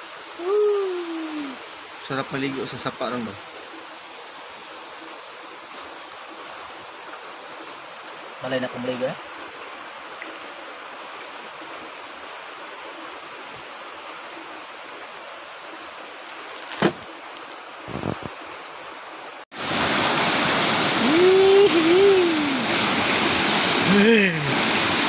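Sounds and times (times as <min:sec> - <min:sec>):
creek water running: 0:00.0 - 0:25.0.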